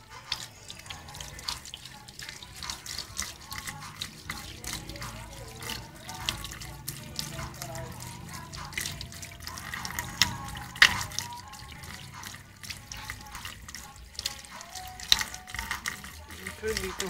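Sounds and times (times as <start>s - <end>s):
water drips: 0.0s - 17.0s
water running in a sink: 0.0s - 17.0s.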